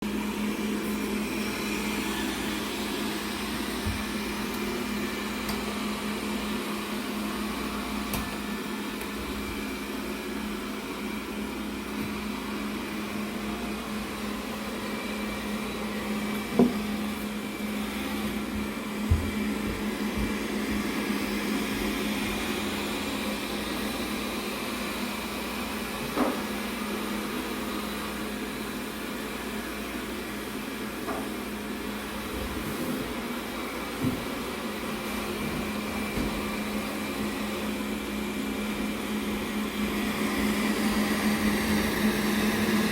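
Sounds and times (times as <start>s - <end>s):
robot vacuum cleaner humming: 0.0s - 42.9s.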